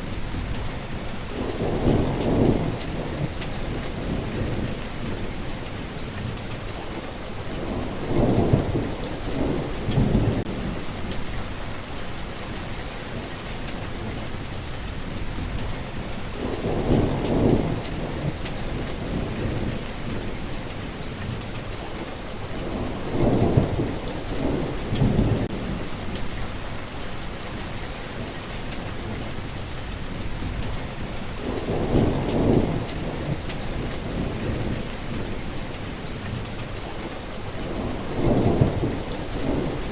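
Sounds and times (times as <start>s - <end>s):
thunder rumbling: 0.0s - 5.6s, 7.4s - 20.6s, 22.4s - 36.8s, 37.4s - 39.9s
heavy rain falling: 0.0s - 39.9s.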